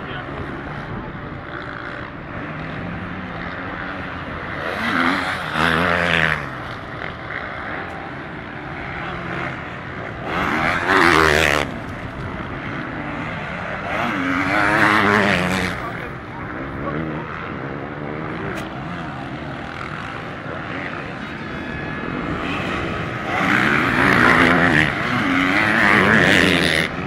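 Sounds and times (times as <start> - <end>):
distant lower engine noise: 0.0 - 27.0
motocross bike engines revving: 0.0 - 27.0.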